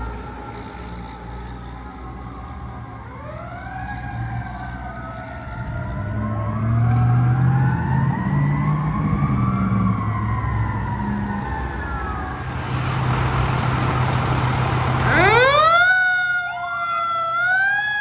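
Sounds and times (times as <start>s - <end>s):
low vehicle rumble: 0.0s - 17.5s
fire truck sirens wailing: 0.0s - 18.0s.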